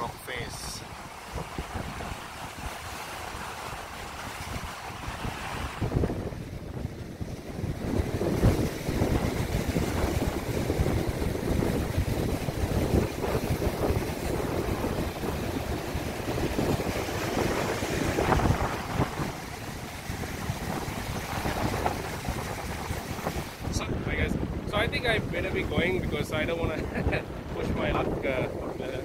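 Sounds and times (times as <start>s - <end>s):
sea surf breaking over rocks: 0.0s - 29.0s
wind buffeting microphone: 0.0s - 29.0s.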